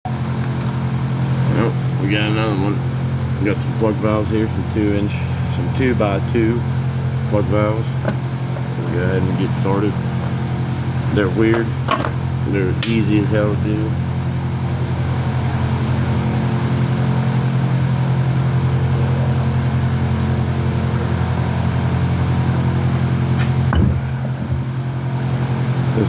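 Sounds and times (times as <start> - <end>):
machine humming: 0.1 - 26.0.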